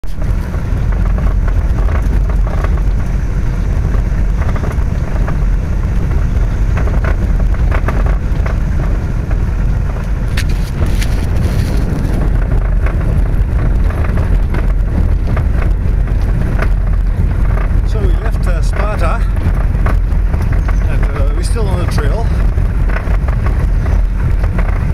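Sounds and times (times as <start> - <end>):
crackling ticks from tyres: 0.0 - 24.9
vehicle rolling on gravel: 0.0 - 24.9.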